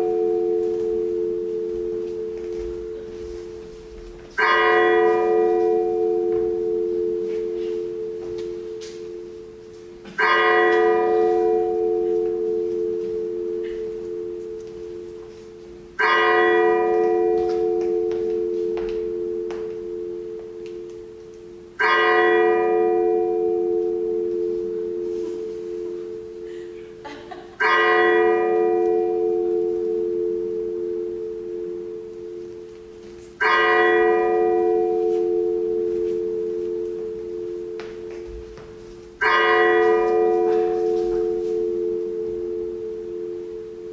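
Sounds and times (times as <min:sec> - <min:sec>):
tolling bell: 0:00.0 - 0:43.9.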